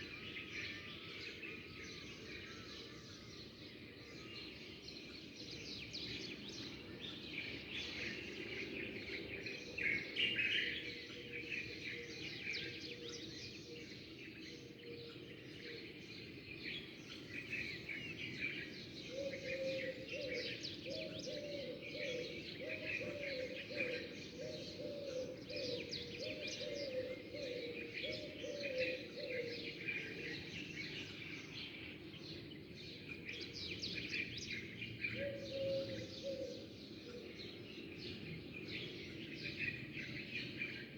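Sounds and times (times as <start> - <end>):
sparrows chirping: 4.0 - 40.9.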